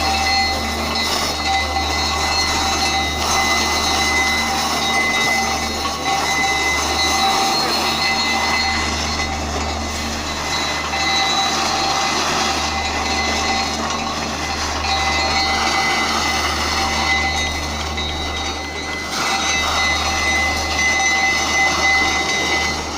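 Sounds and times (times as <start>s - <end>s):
high-pitched whines: 0.0s - 22.9s
train rumbling: 0.0s - 22.9s.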